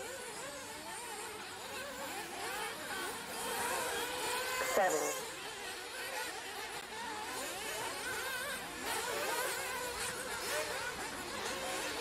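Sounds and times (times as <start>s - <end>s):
rc car engines buzzing: 0.0s - 12.0s.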